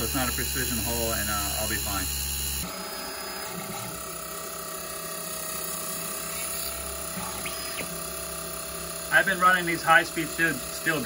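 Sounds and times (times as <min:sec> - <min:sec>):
drill bit drilling metal: 0:00.0 - 0:11.0
mill spindle whining: 0:00.0 - 0:11.0.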